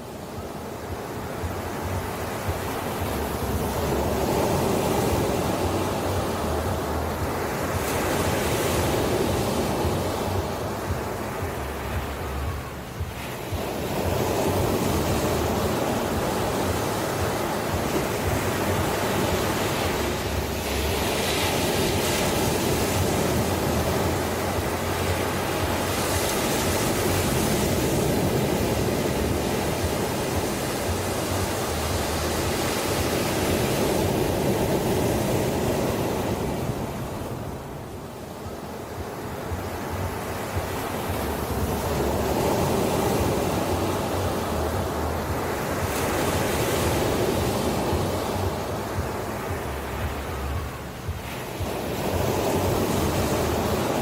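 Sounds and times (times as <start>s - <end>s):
ocean waves washing in: 0.0s - 54.0s.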